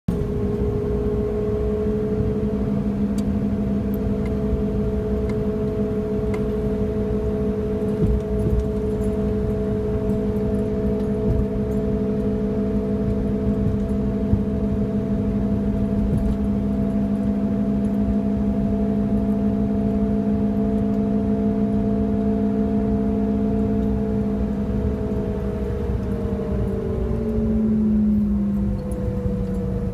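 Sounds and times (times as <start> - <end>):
road noise: 0.1 - 29.9.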